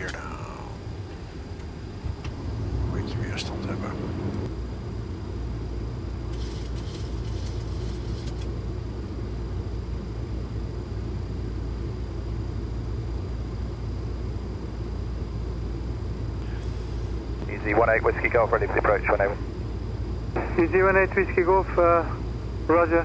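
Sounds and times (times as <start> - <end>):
aircraft cockpit rumble: 0.0 - 23.0
faint high whine: 0.0 - 23.0.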